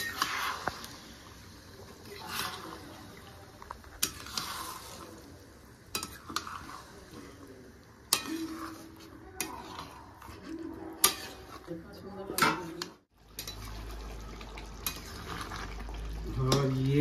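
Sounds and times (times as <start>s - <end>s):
metal spatula scraping a pan: 0.0s - 13.8s, 14.8s - 17.0s
curry sizzling: 0.0s - 17.0s.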